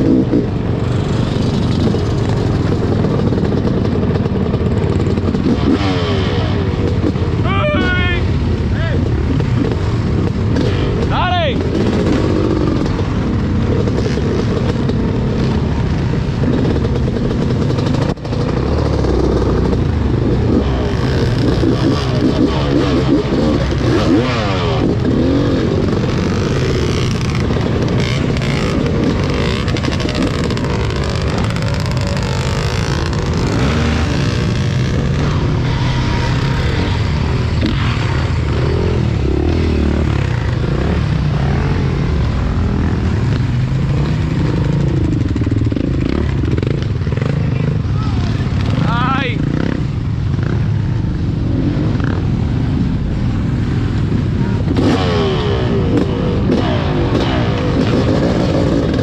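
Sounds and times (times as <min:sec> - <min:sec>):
dirt bike engine revving: 0:00.0 - 0:59.0
other off-road engines: 0:00.0 - 0:59.0.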